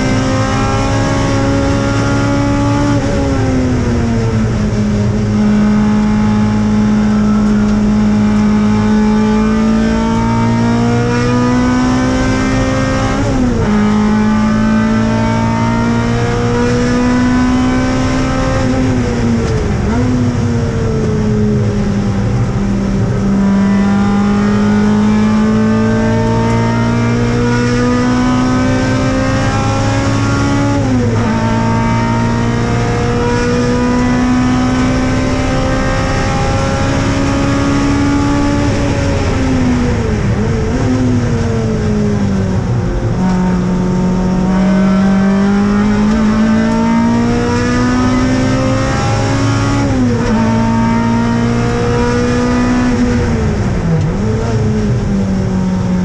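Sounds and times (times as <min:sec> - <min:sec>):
car engine at high revs: 0:00.0 - 0:56.0.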